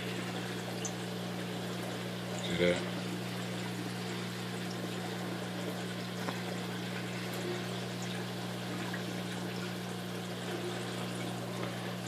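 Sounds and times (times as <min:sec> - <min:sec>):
low pump hum: 0:00.0 - 0:12.0
water circulating and splashing: 0:00.0 - 0:12.0.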